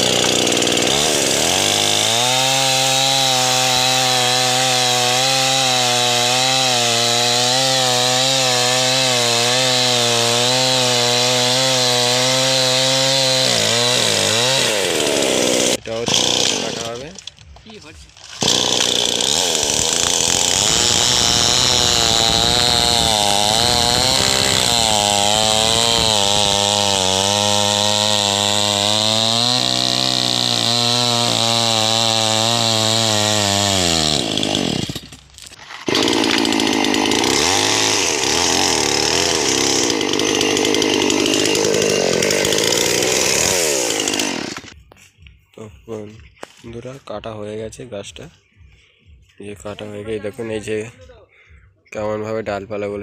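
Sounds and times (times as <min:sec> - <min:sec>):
chainsaw cutting a log: 0:00.0 - 0:17.2, 0:18.2 - 0:44.8.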